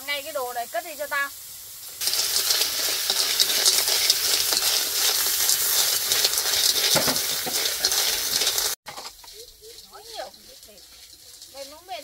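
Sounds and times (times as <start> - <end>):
food sizzling in a hot pan: 0.0 - 12.0
stirring scrape: 2.0 - 12.0.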